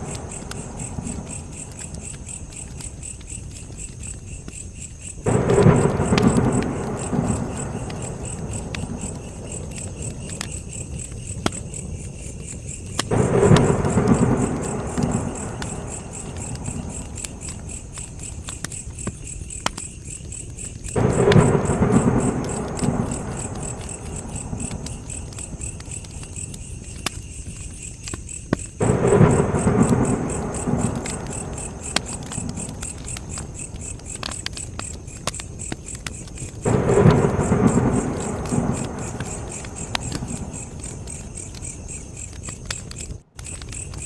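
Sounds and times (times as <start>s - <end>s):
campfire crackling and popping: 0.0s - 44.0s
crickets chirping: 0.0s - 44.0s.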